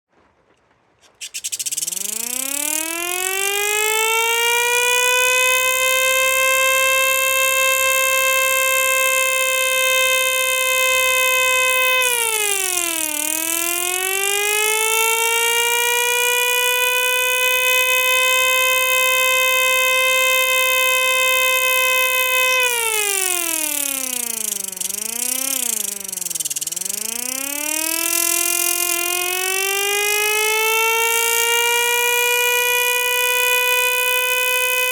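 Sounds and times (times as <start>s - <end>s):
air-raid siren wailing: 1.6s - 34.9s.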